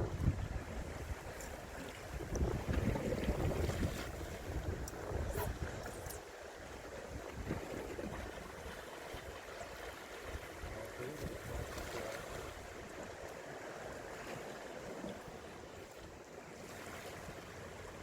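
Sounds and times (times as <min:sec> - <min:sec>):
seawater lapping against rocks: 0:00.0 - 0:18.0.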